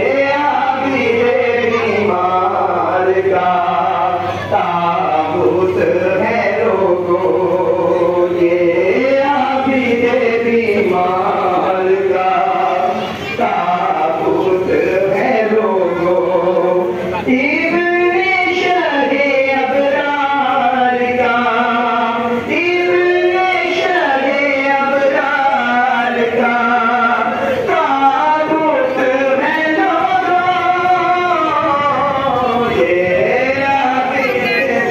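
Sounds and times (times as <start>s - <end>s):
voices chanting a mournful lament: 0.0s - 34.9s.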